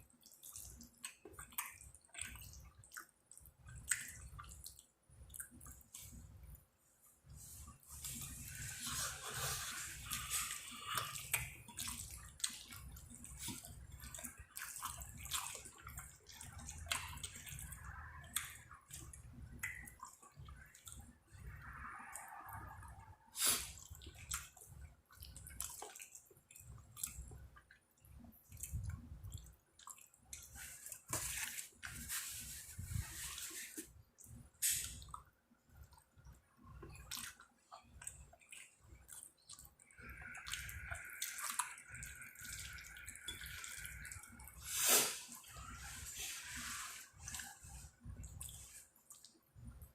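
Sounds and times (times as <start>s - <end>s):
wet chewing with clicks: 0.0s - 6.6s, 7.8s - 32.1s, 33.0s - 49.9s.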